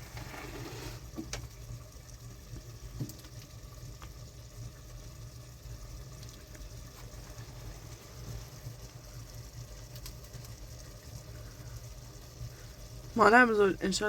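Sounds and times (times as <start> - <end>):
rain hissing: 0.0 - 14.0
faint drips: 1.2 - 14.0.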